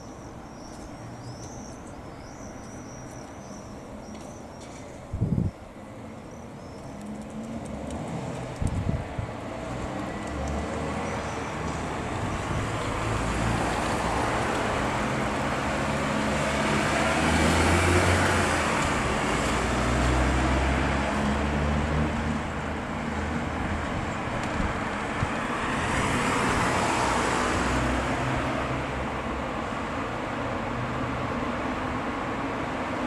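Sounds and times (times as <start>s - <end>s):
vehicles passing by: 0.0s - 33.0s.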